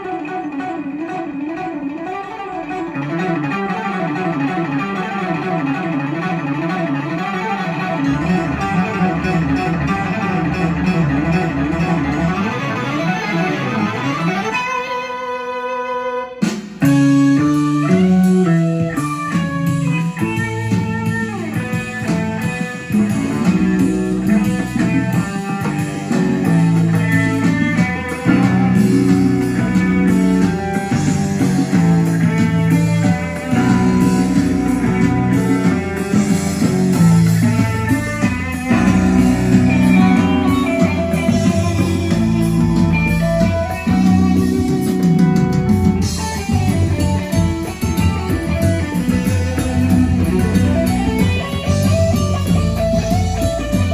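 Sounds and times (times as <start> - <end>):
bluesy guitar rock music: 0.0 - 53.9.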